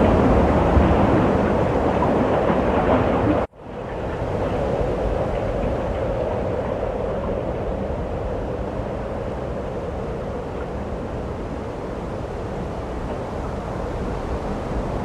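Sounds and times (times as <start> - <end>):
snowstorm wind rushing: 0.0 - 15.0.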